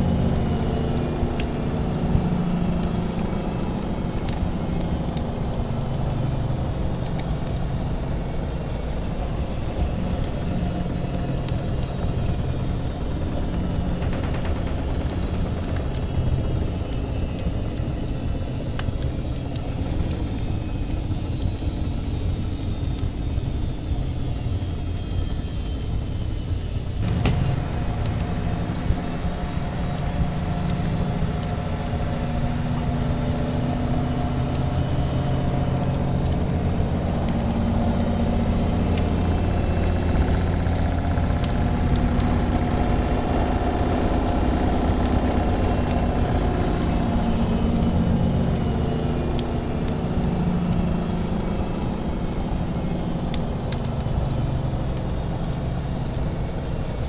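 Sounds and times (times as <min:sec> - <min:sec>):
wood fire crackling: 0:00.0 - 0:23.4, 0:27.0 - 0:57.0
washing machine motor hum: 0:00.0 - 0:25.8, 0:26.7 - 0:57.0.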